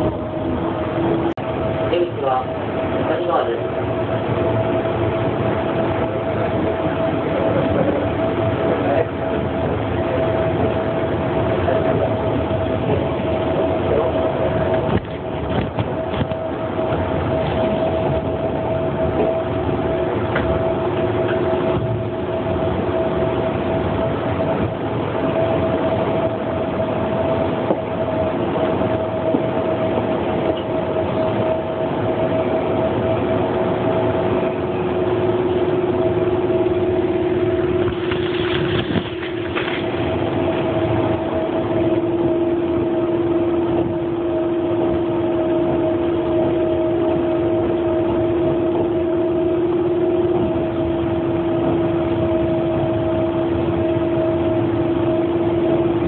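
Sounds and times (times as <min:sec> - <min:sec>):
train carriage rumble: 0:00.0 - 0:56.0
two-tone hum: 0:00.0 - 0:56.0.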